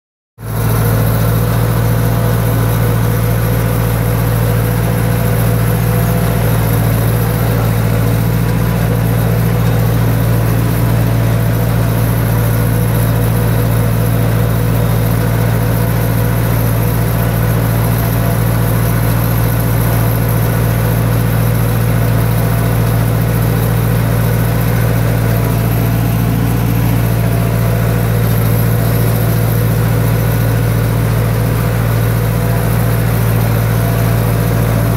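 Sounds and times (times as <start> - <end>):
vehicle engine running steadily: 0.4 - 34.9.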